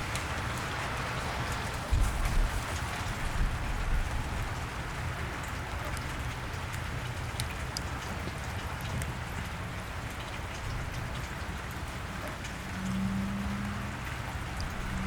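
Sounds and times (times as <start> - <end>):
rain on a wet street: 0.0 - 15.0.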